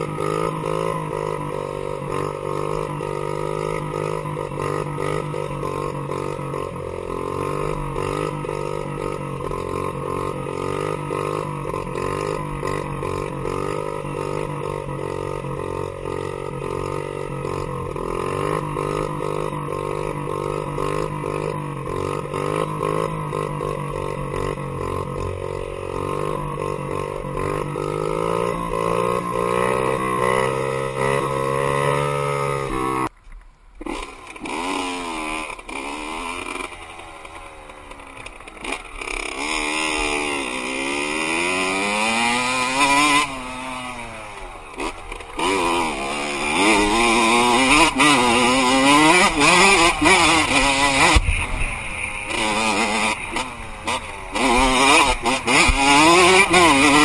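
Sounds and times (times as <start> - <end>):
dirt bike engine revving: 0.0 - 33.1, 33.8 - 57.0.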